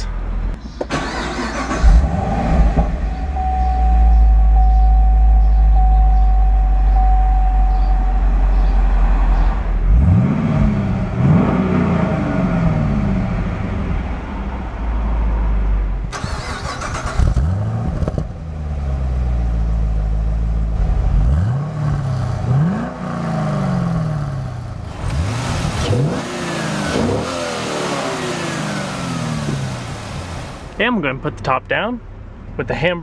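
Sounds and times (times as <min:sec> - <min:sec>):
car engine idling and revving: 0:00.0 - 0:30.8.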